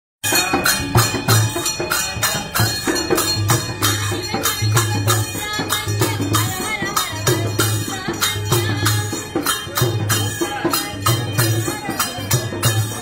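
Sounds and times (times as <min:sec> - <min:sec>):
jingling percussion: 0:00.2 - 0:13.0.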